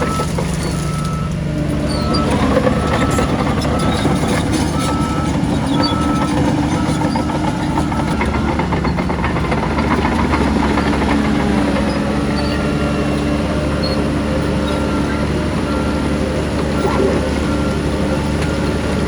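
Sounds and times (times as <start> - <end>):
bulldozer diesel engine under load: 0.0 - 19.0
steel tracks clanking: 0.0 - 19.0.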